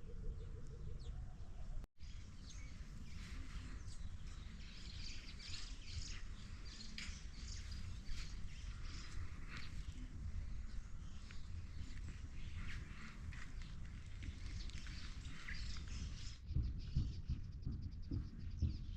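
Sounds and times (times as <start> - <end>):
small birds chirping: 0.0 - 18.9
steady low rumble: 0.0 - 18.9.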